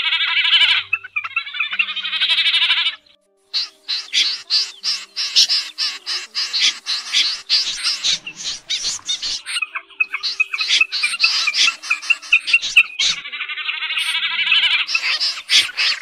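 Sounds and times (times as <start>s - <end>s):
snipe calls: 0.0s - 16.0s.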